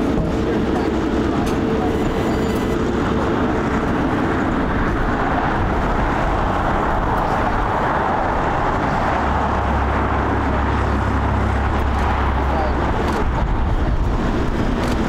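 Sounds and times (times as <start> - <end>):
deep rumble: 0.0 - 15.0
jet engine roar: 0.0 - 15.0.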